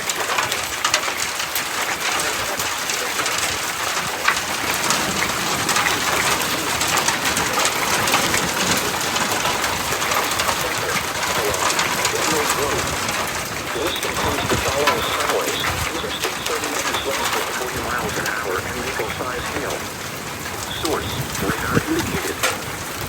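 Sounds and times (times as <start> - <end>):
heavy rain pelting: 0.0 - 23.0.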